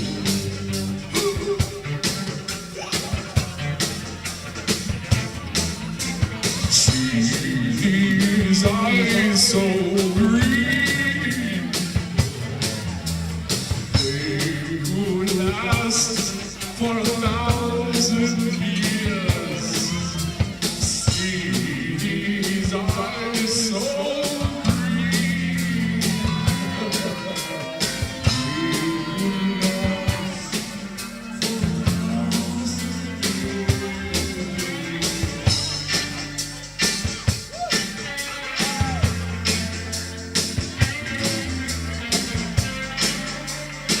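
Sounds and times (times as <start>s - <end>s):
rock and roll band playing live: 0.0s - 44.0s
steady drum beat: 0.0s - 44.0s.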